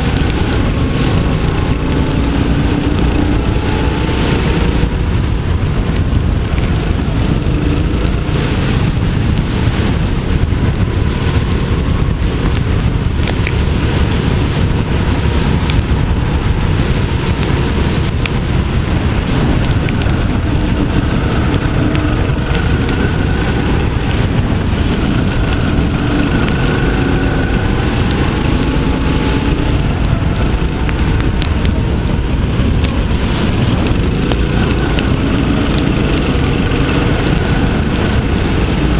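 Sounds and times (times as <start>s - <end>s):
kart engine running: 0.0s - 38.9s
rain noise: 0.0s - 38.9s
wind noise on microphone: 0.0s - 38.9s.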